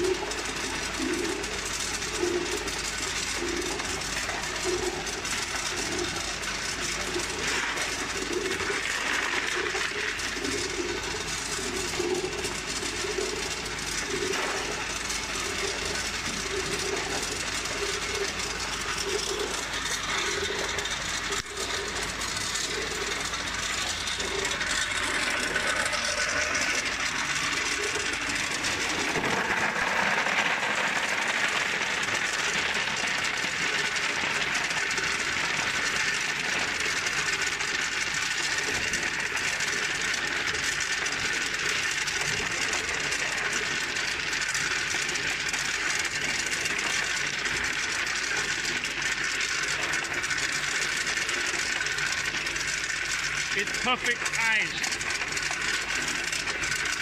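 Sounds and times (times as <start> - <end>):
ice machine running: 0.0 - 57.0.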